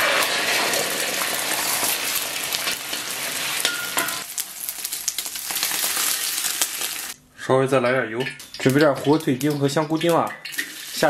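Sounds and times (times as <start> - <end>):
egg sizzling in hot oil: 0.0 - 7.2, 8.2 - 11.0.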